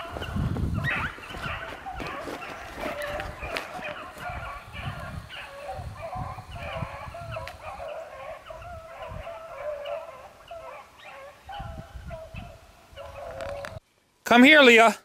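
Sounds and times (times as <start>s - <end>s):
beagles baying: 0.0s - 13.8s.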